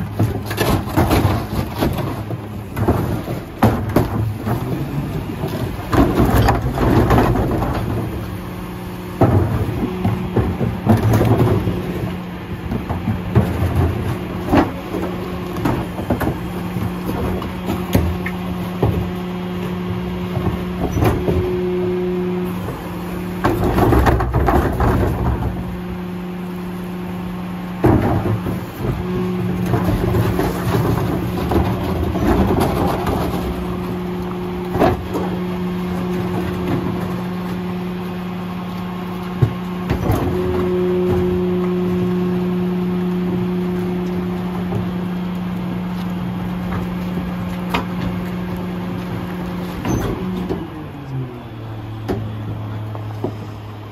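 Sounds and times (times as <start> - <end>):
trash falling: 0.0 - 21.8, 22.5 - 26.0, 27.7 - 38.2, 39.0 - 51.0
garbage truck humming: 0.0 - 53.9.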